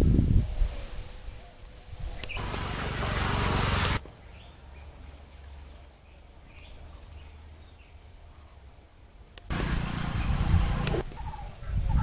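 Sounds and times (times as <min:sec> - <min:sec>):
low outdoor rumble: 0:02.4 - 0:12.0.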